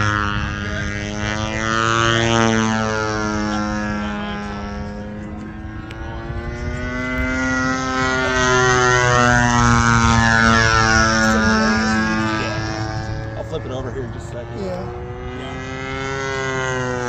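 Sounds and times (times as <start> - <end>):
model airplane engine flying past: 0.0 - 17.0.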